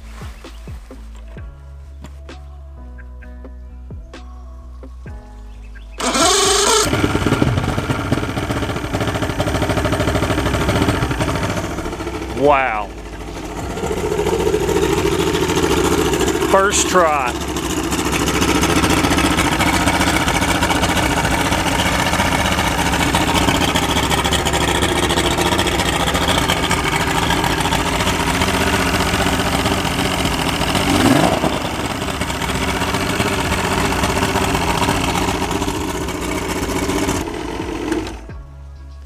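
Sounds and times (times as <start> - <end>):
outboard motor idling and revving: 6.0 - 38.5.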